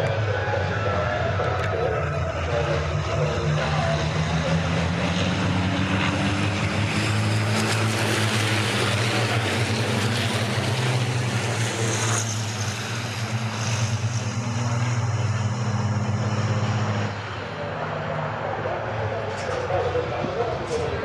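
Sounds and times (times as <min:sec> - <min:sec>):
diesel truck engines droning: 0:00.0 - 0:21.0
trucks passing by: 0:00.0 - 0:21.0.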